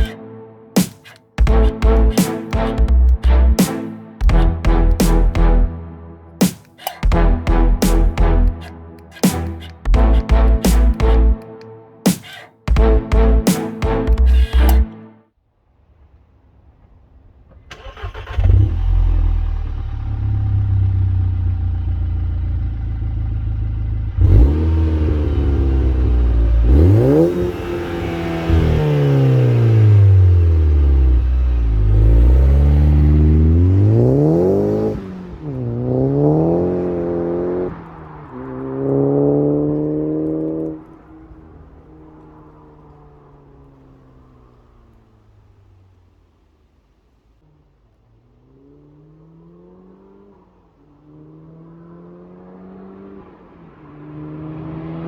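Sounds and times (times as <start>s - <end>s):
car engine idling and revving: 0.0s - 14.9s, 16.0s - 55.0s.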